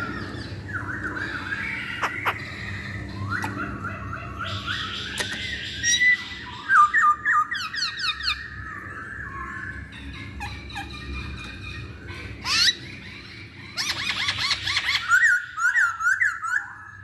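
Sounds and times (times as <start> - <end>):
bird chattering and squawking: 0.0 - 17.0.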